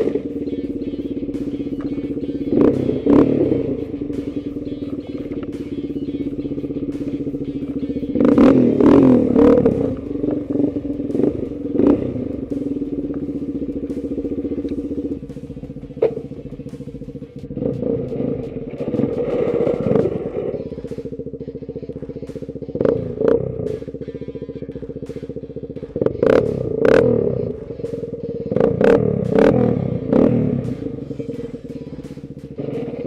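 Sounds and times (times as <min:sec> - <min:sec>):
small engine revving: 0:00.0 - 0:33.0.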